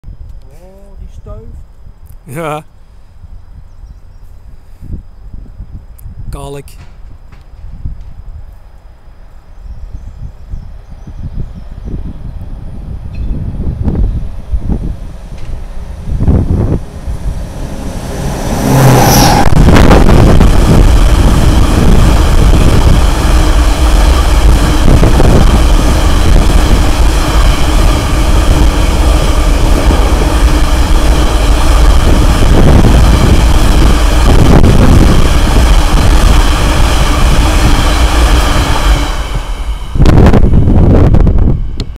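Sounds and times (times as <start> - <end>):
diesel locomotive passing: 6.8 - 42.0.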